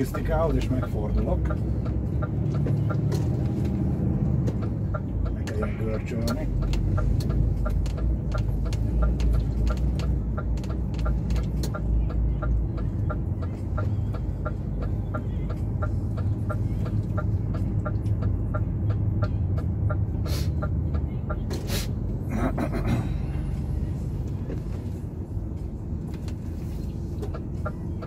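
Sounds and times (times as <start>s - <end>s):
truck engine running: 0.0s - 28.0s
turn signal ticking: 0.0s - 28.0s.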